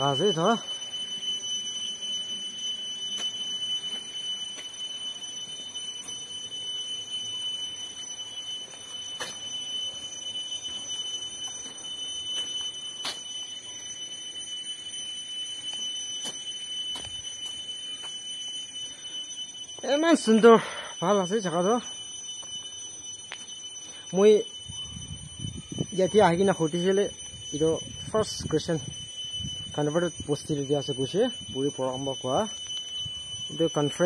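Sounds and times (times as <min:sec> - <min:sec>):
high-pitched whistling tone: 0:00.0 - 0:34.0.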